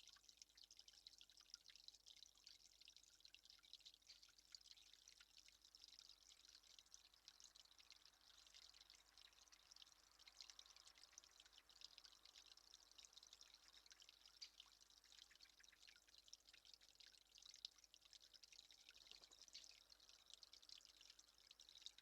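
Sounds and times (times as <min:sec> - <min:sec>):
patter of small ticks: 0:00.0 - 0:22.0.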